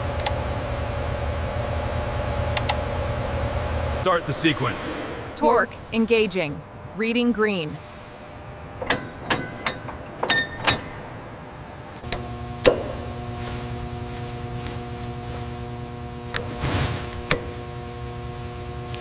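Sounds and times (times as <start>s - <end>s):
machine hum: 0.0s - 16.5s.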